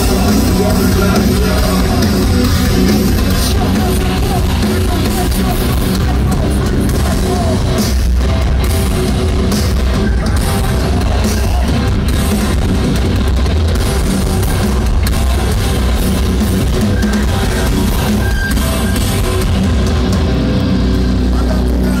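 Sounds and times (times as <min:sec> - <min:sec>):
distorted electric guitars: 0:00.0 - 0:22.0
drum kit: 0:00.0 - 0:22.0.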